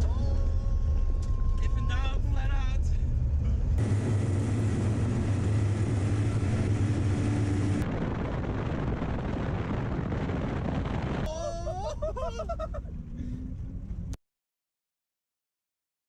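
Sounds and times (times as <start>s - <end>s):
road and tyre noise: 0.0s - 11.3s, 12.0s - 14.2s
car engine hum: 0.0s - 14.2s.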